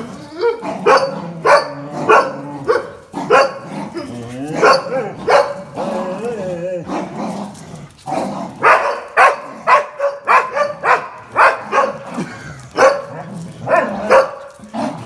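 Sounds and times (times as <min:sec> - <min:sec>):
dogs barking in play: 0:00.0 - 0:15.0.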